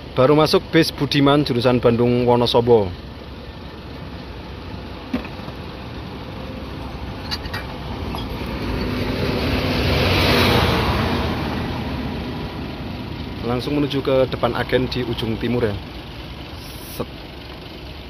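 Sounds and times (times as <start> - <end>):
bus driving past: 3.1 - 18.0.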